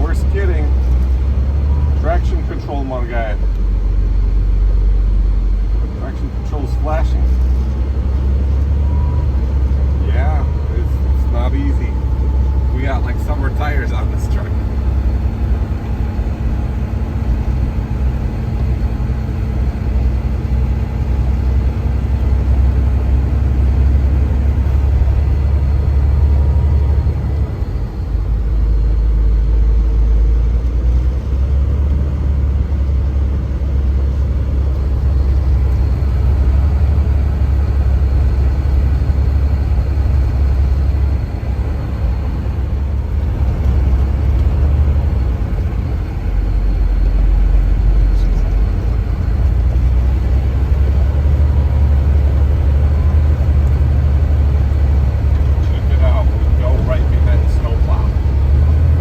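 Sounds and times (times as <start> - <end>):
engine and road drone in cab: 0.0 - 59.0.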